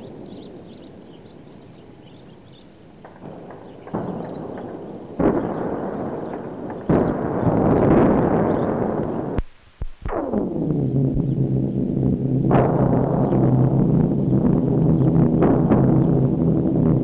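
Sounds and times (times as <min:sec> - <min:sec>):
explosion blasts with rumble: 0:00.0 - 0:17.0.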